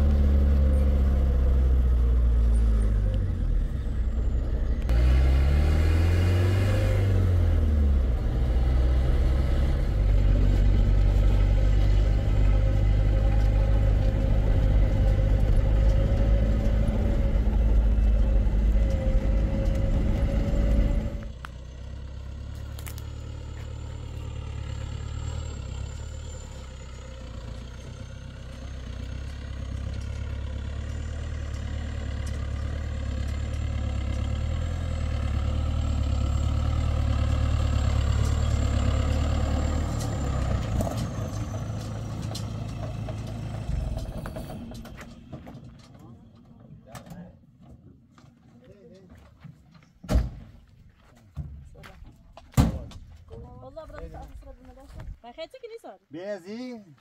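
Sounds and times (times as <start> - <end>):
vehicle engine running: 0.0 - 46.8.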